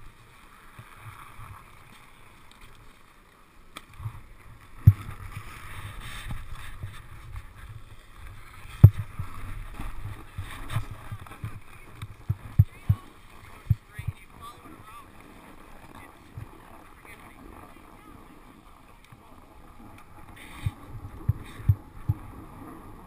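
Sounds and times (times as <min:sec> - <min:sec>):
snowboard rumbling on snow: 0:04.0 - 0:23.0.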